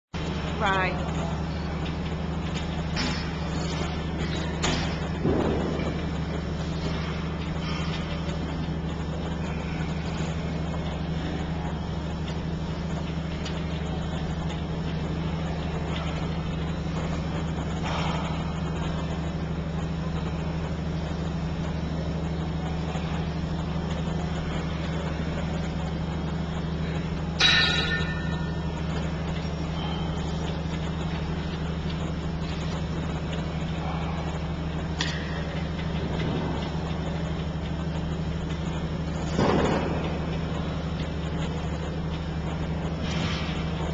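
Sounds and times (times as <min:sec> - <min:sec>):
low mechanical hum: 0:00.1 - 0:43.9.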